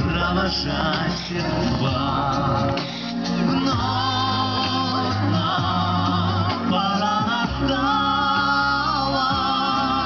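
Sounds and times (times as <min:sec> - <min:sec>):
pop song over loudspeakers: 0:00.0 - 0:10.0.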